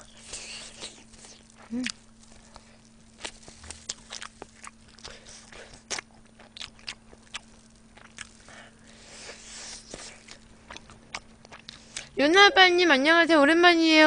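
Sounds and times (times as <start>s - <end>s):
wet chewing and mouth smacks: 0.0s - 8.6s, 9.2s - 12.2s
faint steady hum: 0.0s - 14.0s.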